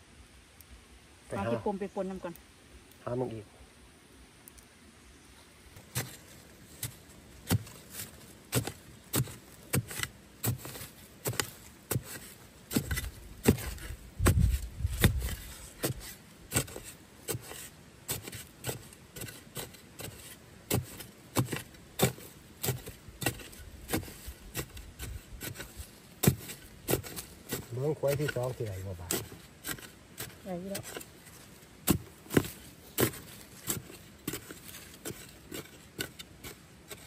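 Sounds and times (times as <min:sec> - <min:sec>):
hand tool striking ground: 0:05.8 - 0:37.0.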